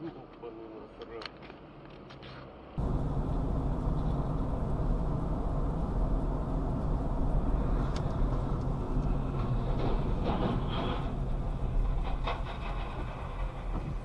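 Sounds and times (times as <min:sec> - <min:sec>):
vehicle rumble: 0:00.9 - 0:14.0.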